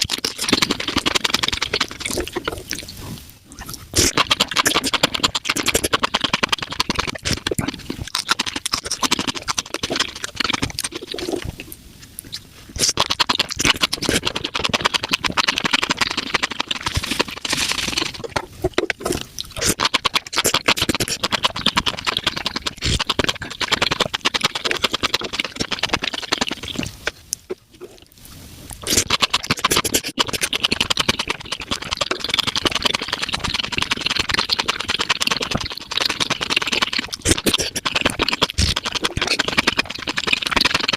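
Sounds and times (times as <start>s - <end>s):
sped-up chewing crackle: 0.0s - 40.9s.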